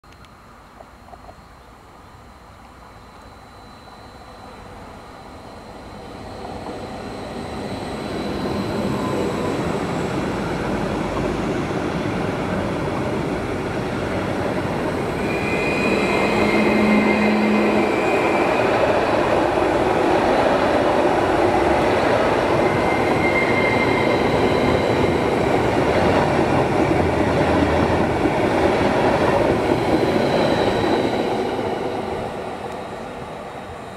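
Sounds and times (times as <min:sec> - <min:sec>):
high-pitched whines: 0:00.9 - 0:33.9
train wheels rolling on rails: 0:02.7 - 0:33.9.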